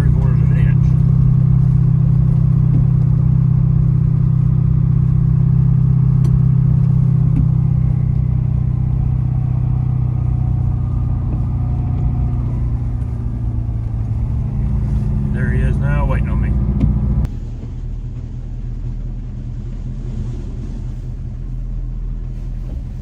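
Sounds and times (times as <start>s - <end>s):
pickup truck engine running: 0.0s - 23.0s.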